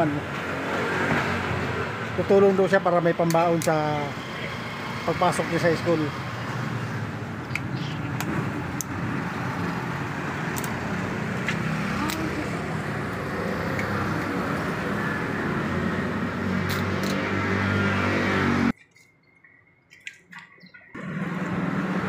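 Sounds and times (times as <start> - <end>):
road traffic rumble: 0.0 - 18.8, 20.7 - 22.0.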